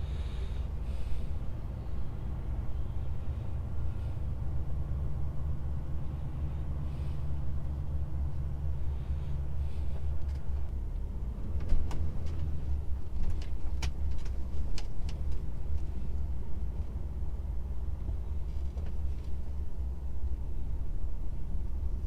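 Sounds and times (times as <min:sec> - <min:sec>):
truck diesel engine rumble: 0:00.0 - 0:22.0.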